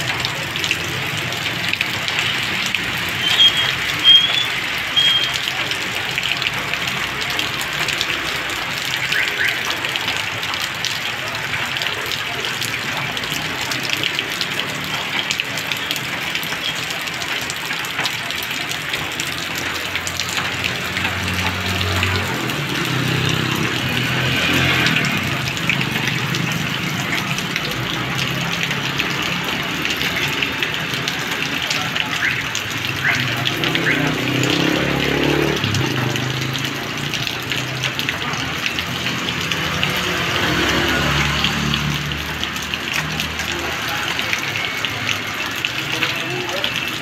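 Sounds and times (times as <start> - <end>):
heavy rain on asphalt road: 0.0 - 47.0
motorbike engines passing: 0.0 - 47.0.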